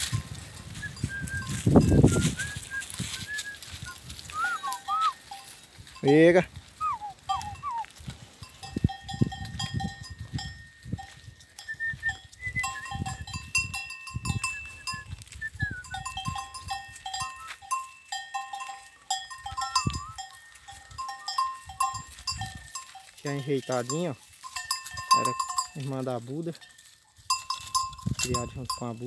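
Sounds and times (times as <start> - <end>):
animal bells clinking: 0.0 - 29.0
hooves and footsteps on dry ground: 0.0 - 29.0.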